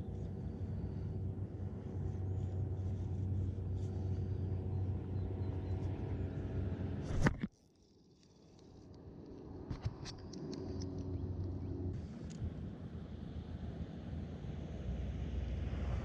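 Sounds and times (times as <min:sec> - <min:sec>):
motor humming drone: 0:00.0 - 0:16.0.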